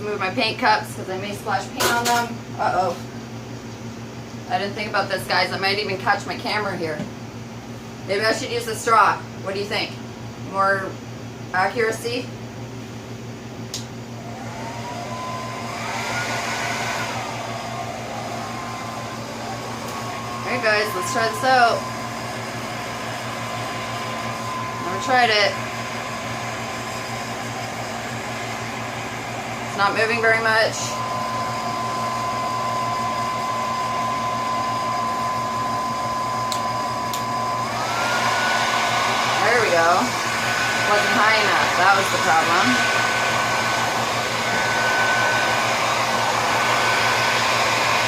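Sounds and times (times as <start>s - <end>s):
blow dryer running: 0.0s - 3.3s, 4.4s - 11.0s, 13.8s - 48.0s.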